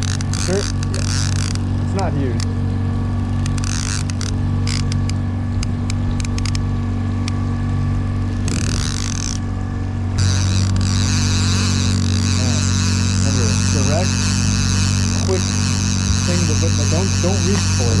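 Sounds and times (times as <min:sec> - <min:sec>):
outboard motor humming: 0:00.0 - 0:18.0.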